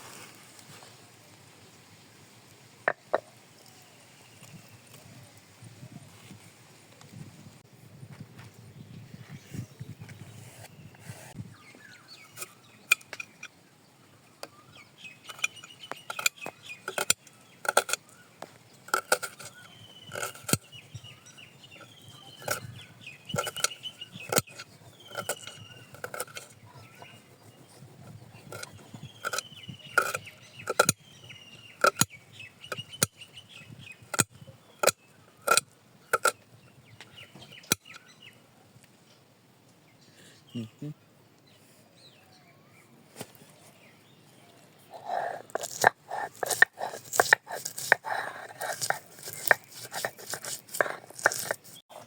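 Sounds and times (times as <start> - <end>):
birds chirping: 8.7 - 52.0.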